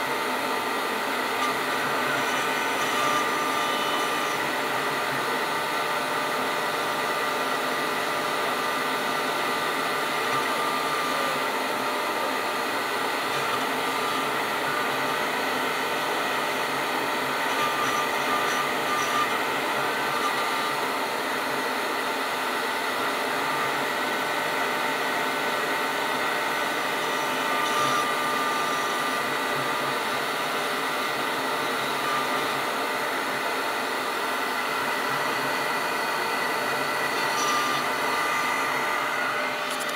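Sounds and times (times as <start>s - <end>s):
router bit cutting wood: 0.0s - 39.9s
router spindle whining: 0.0s - 39.9s.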